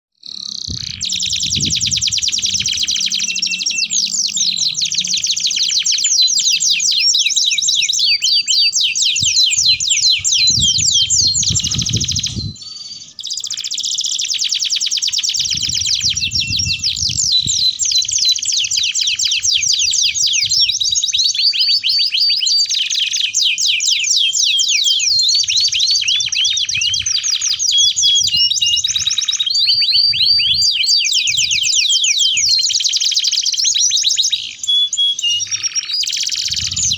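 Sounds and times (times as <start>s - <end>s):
canary singing trills: 0.2s - 36.9s.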